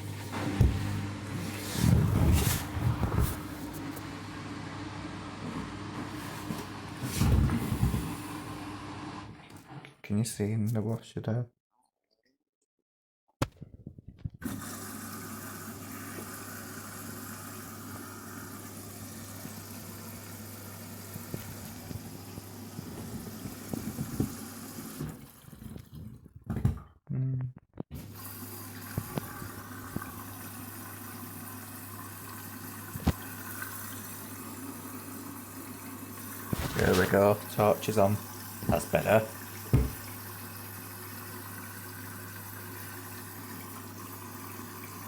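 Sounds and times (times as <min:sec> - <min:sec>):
water filling washing machine drum: 0:00.0 - 0:04.4, 0:05.4 - 0:09.2, 0:14.4 - 0:26.1, 0:28.0 - 0:45.0.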